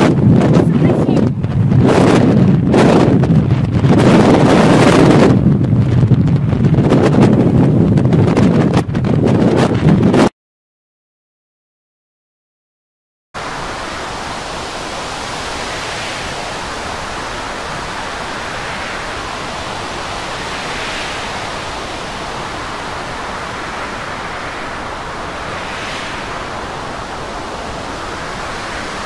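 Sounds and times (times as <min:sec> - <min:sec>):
rough sea: 0:00.0 - 0:10.3, 0:13.4 - 0:29.0
storm wind: 0:00.0 - 0:10.3, 0:13.4 - 0:29.0.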